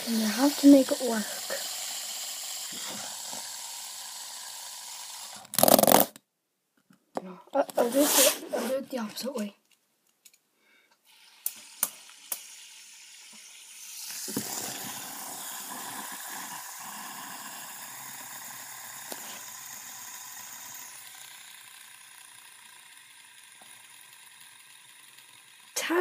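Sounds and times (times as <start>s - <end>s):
fidget spinner whirring: 0.0s - 6.2s, 7.6s - 9.5s, 11.0s - 26.0s.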